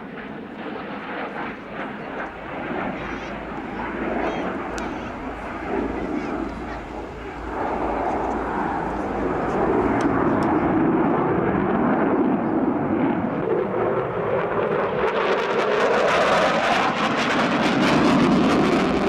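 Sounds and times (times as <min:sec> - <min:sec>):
aircraft engine rush: 0:00.0 - 0:19.0.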